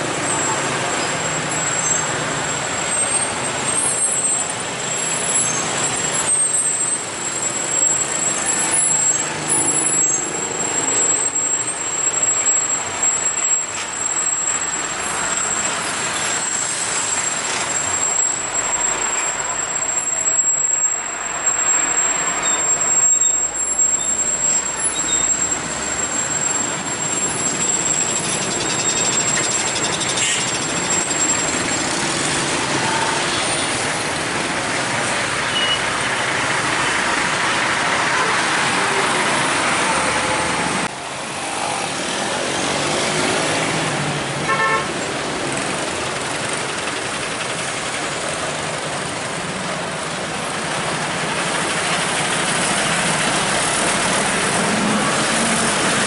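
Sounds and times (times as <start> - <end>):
bus engine: 0.0 - 56.0
heavy road traffic: 0.0 - 56.0
truck engine: 0.0 - 56.0.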